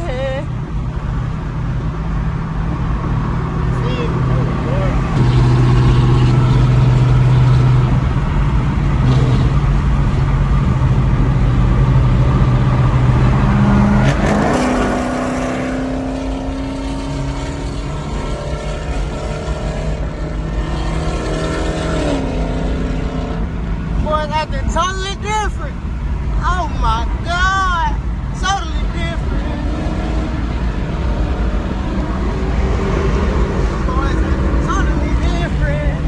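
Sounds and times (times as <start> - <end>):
car engines running hard: 0.0 - 36.0.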